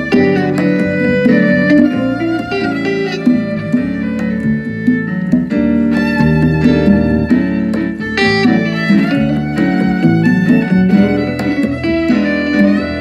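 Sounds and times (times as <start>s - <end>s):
fiddle melody: 0.0s - 13.0s
live band music: 0.0s - 13.0s.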